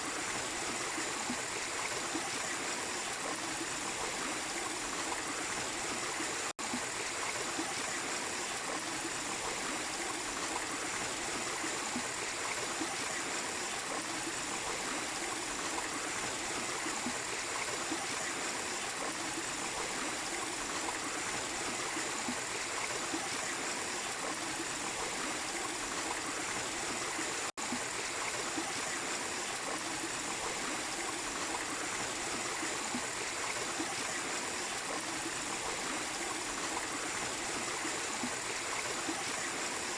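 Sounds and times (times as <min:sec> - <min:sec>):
small waterfall and stream running: 0:00.0 - 0:39.9.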